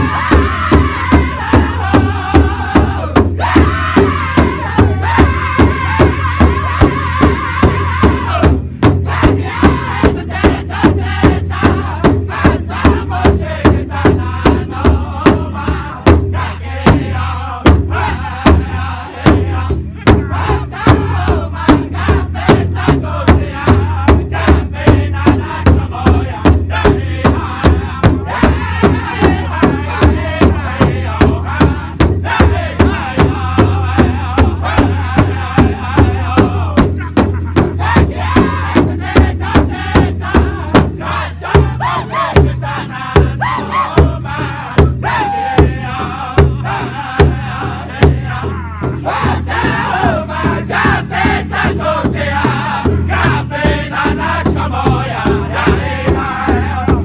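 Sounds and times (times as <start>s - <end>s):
large drum beating: 0.0s - 57.0s
men singing together: 0.0s - 57.0s.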